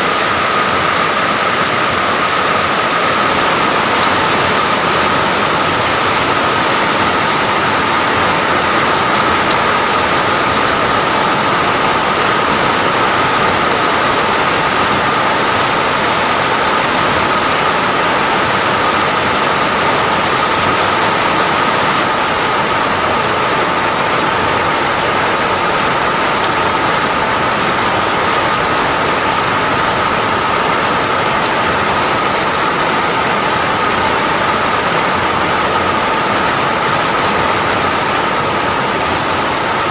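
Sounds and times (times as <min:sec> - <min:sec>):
dense rain pattering: 0:00.0 - 0:39.9.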